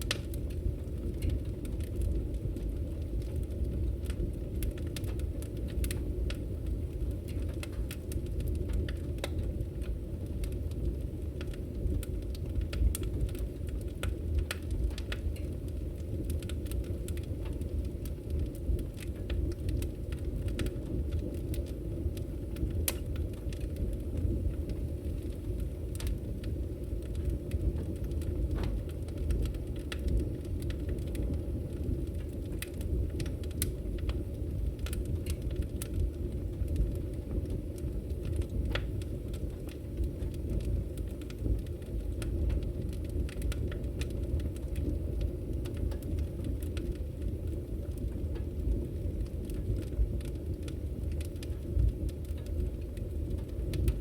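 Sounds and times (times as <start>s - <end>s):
firewood crackling and popping: 0.0s - 54.0s
low rumble of flames: 0.0s - 54.0s.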